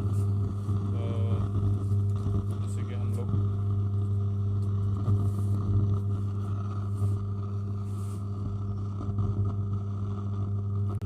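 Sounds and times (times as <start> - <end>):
amplifier hum and buzz: 0.0 - 11.0.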